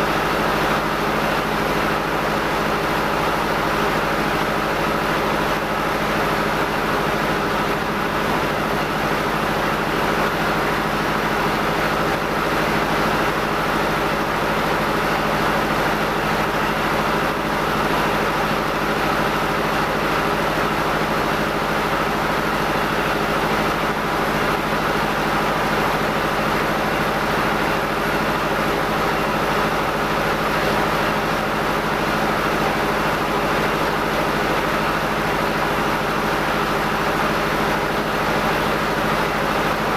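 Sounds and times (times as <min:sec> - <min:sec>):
rice mill machinery running: 0:00.0 - 0:39.9.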